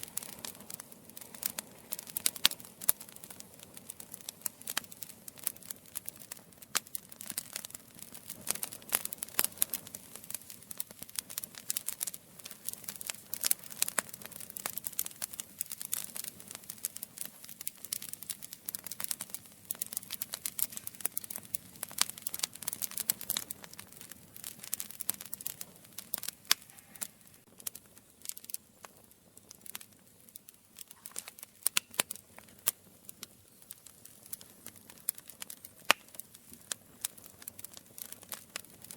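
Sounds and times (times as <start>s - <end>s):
campfire crackling: 0.0s - 38.9s
flame rushing: 0.0s - 38.9s.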